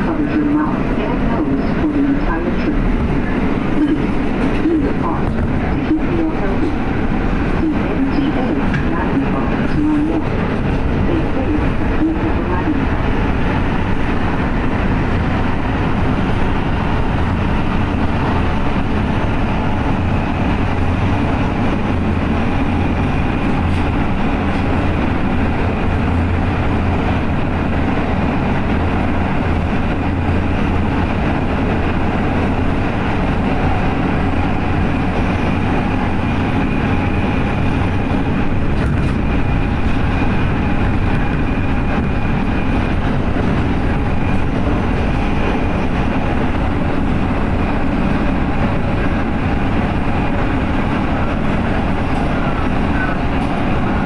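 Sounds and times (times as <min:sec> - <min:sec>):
subway wheels rumbling on rail: 0:00.0 - 0:54.0.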